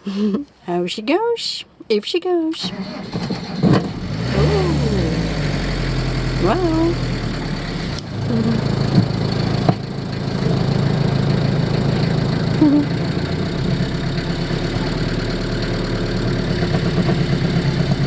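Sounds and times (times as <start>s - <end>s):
van engine idling: 2.7s - 18.0s.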